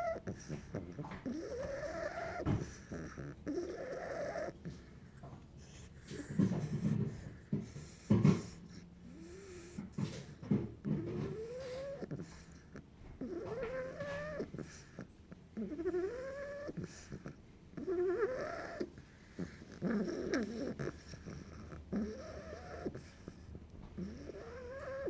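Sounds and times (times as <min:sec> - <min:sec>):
quiet breathing: 0:00.0 - 0:10.4, 0:13.5 - 0:25.0
puppy snoring: 0:00.0 - 0:25.0.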